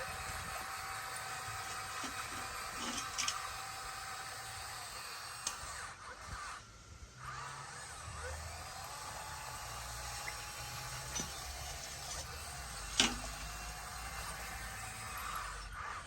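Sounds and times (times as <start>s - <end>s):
whining tone: 0.0s - 16.0s.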